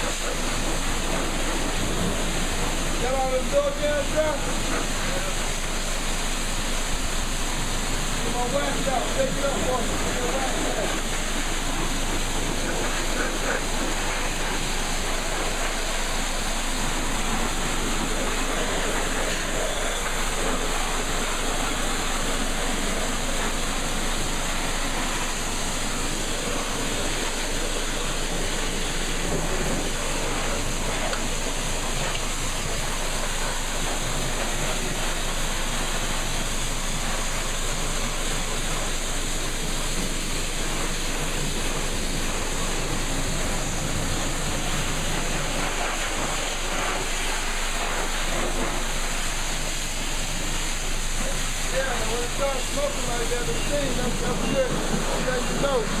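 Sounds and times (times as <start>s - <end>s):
pressure washer spraying water: 0.0s - 56.0s.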